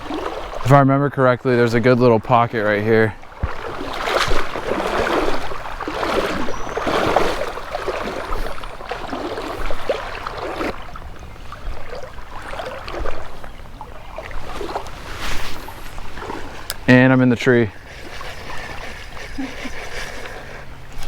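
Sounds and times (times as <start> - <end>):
creek water splashing: 0.0 - 21.0.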